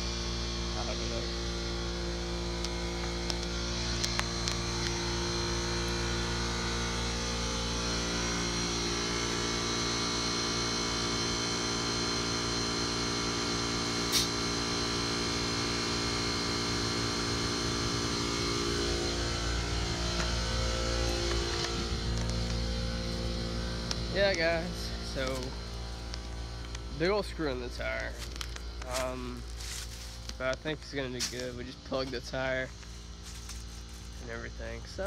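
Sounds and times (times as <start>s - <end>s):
motor humming: 0.0s - 35.0s.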